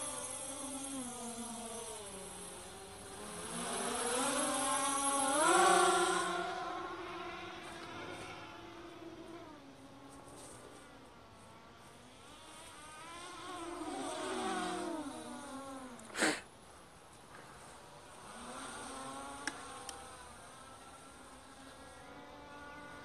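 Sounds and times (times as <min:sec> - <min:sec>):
quadcopter propellers buzzing: 0:00.0 - 0:16.6, 0:17.3 - 0:23.0.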